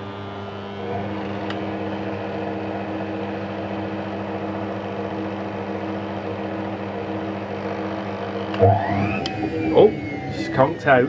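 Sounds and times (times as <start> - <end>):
washing machine motor whirring: 0.0 - 11.0.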